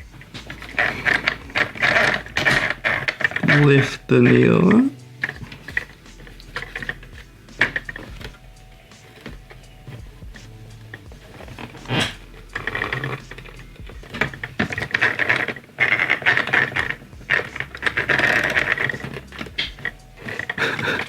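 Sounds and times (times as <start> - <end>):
toy sewing machine clattering: 0.2 - 10.0, 10.8 - 21.0.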